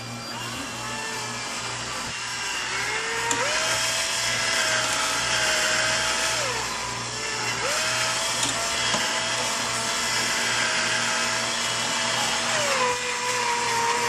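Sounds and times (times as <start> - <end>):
electric drill motor whine: 0.0 - 14.0.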